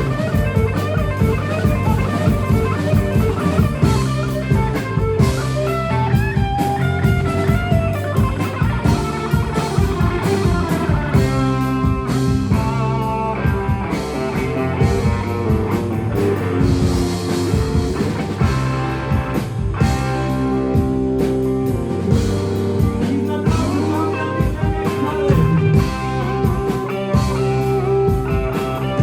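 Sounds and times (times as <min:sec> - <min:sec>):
bass: 0:00.0 - 0:29.0
drum kit beat: 0:00.0 - 0:29.0
guitar: 0:00.0 - 0:29.0.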